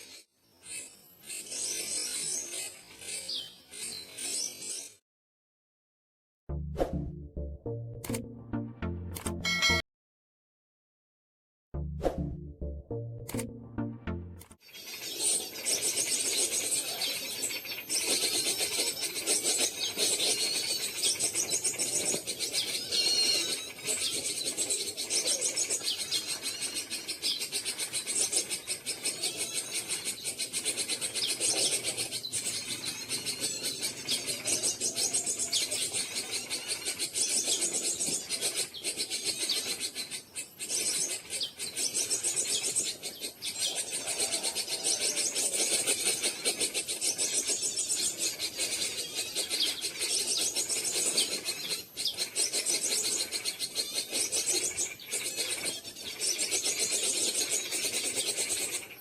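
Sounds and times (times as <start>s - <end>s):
small birds chirping and trilling: 0.0s - 5.0s, 14.6s - 59.0s.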